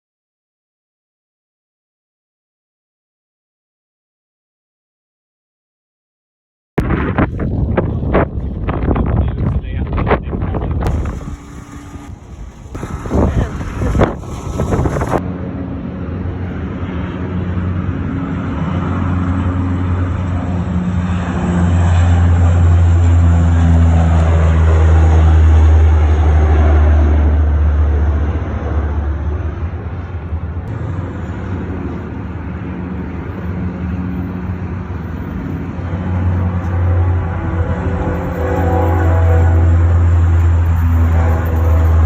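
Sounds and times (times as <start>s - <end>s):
aircraft engine drone: 6.8s - 42.0s.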